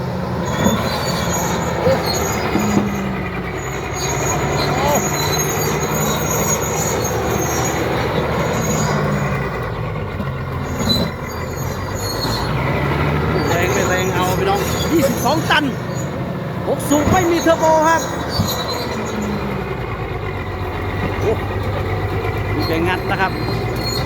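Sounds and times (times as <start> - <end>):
diesel bulldozer engine under load: 0.0 - 24.0
steel tracks squealing and clanking: 0.0 - 24.0.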